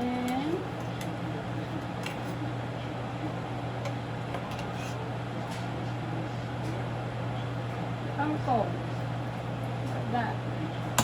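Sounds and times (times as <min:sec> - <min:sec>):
appliance humming: 0:00.0 - 0:11.0.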